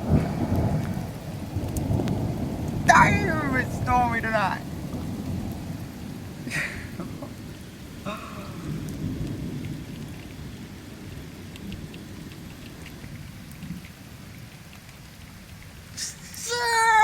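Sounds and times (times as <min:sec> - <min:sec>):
thunder rumbling: 0:00.0 - 0:14.3
rain falling: 0:00.0 - 0:17.0.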